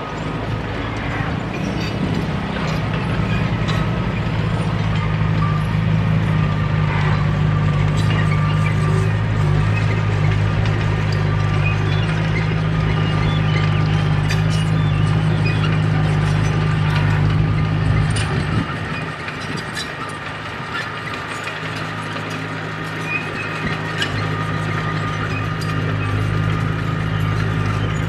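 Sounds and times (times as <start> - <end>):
bulldozer diesel engine running: 0.0 - 28.0
steel tracks clanking: 0.0 - 28.0.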